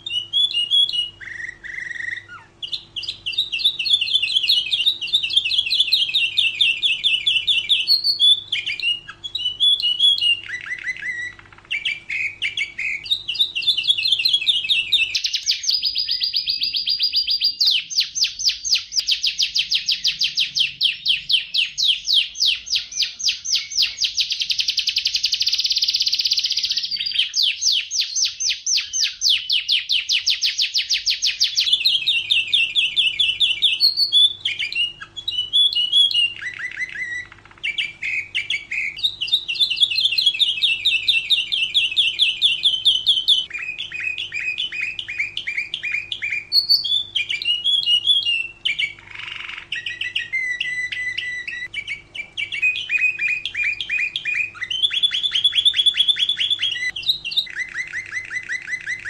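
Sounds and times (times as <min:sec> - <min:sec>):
canary singing rapid trills: 0:00.0 - 0:59.0.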